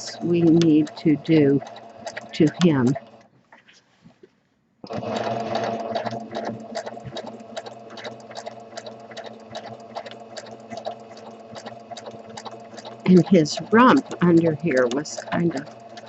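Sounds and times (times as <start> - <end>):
sewing machine stitching: 0.0 - 3.2, 4.8 - 16.0.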